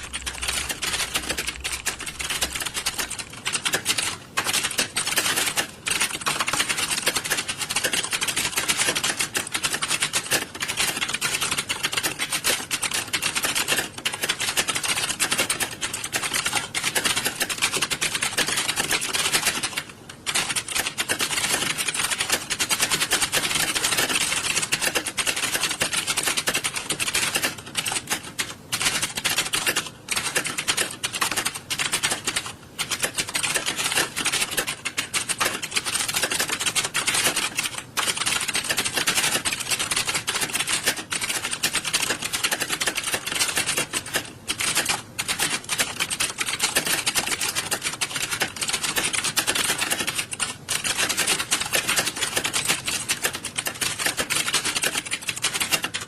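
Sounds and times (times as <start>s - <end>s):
many keyboards typing: 0.0s - 56.0s.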